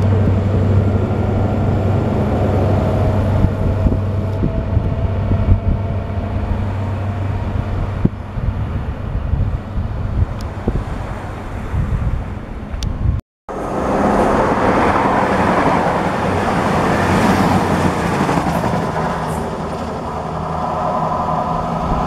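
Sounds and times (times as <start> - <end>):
diesel train low drone: 0.0 - 22.0.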